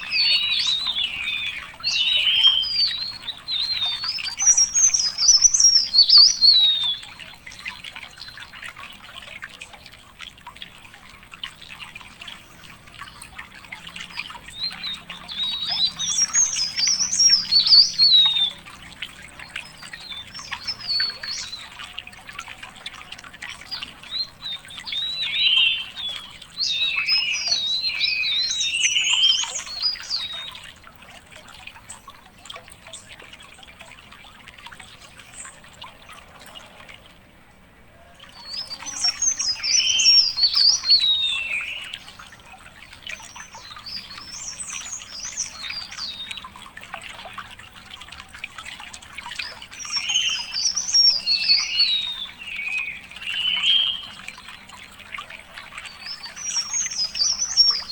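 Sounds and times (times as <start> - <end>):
songbirds warbling: 0.0 - 57.9.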